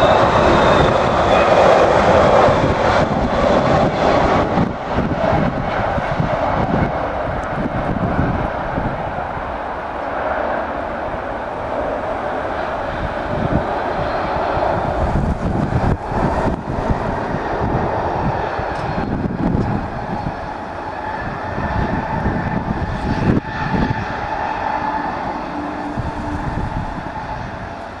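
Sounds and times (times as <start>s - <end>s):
jet engine roar: 0.0s - 28.0s.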